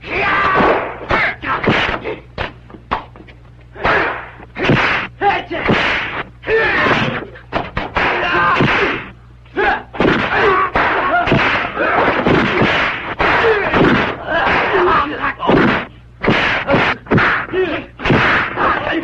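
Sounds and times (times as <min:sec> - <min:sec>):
people shouting and crying out: 0:00.0 - 0:02.4, 0:03.7 - 0:07.4, 0:08.0 - 0:15.9, 0:16.5 - 0:19.0
punch and kick impacts: 0:00.4 - 0:03.0, 0:03.8 - 0:09.0, 0:10.0 - 0:19.0.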